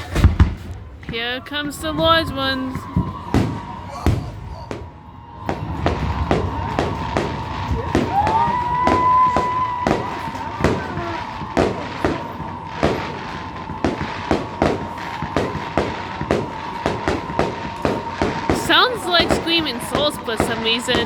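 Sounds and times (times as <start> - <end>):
fireworks bangs: 0.0 - 21.0
fireworks screaming whistle: 0.0 - 21.0.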